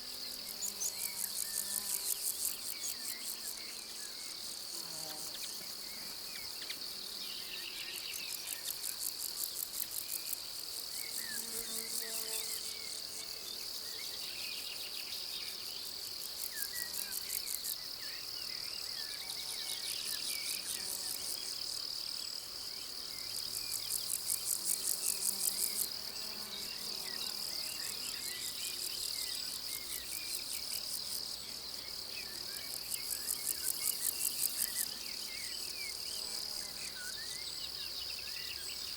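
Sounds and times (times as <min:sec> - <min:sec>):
insects high-pitched trill: 0:00.0 - 0:38.9
insects rapid rhythmic chirping: 0:00.0 - 0:38.9.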